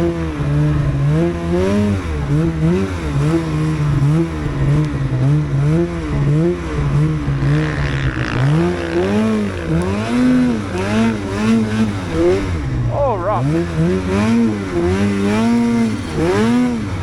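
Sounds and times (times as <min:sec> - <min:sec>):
snowmobile engine revving: 0:00.4 - 0:17.0.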